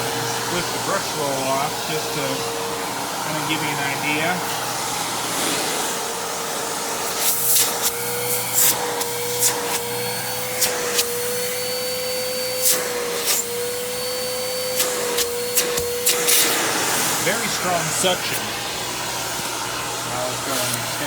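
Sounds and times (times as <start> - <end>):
vacuum cleaner motor whining: 0.0 - 21.0.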